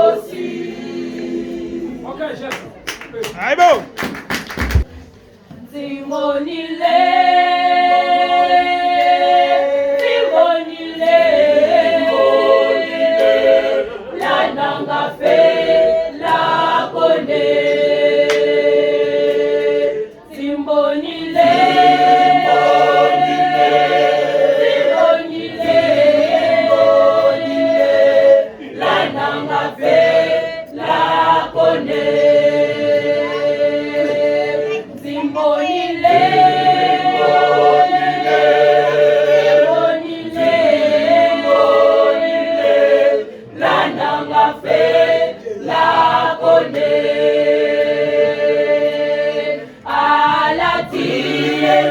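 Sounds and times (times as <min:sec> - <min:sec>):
choir singing a cappella: 0:00.0 - 0:02.3, 0:05.5 - 0:51.9.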